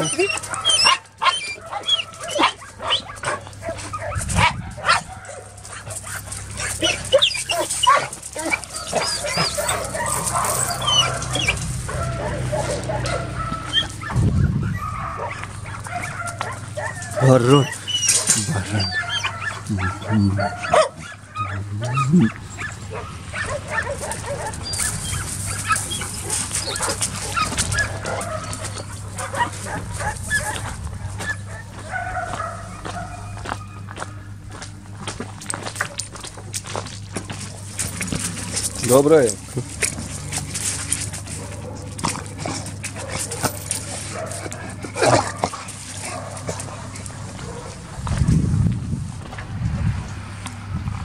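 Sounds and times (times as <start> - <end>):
crunches on gravel: 0.0 - 14.2, 14.8 - 51.0
dogs yipping and whining: 0.0 - 48.4
dogs barking: 0.0 - 48.6.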